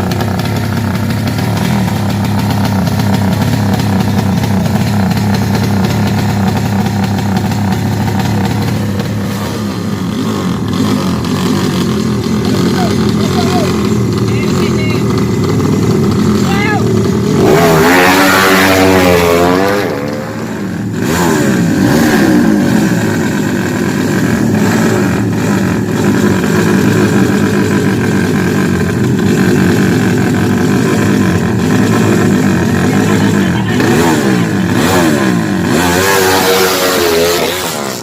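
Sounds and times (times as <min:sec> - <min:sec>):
motorcycle engines revving hard: 0:00.0 - 0:38.0.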